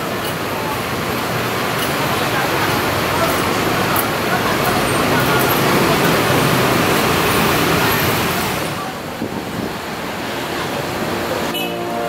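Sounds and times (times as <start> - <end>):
traffic rushing hiss: 0.0 - 12.0.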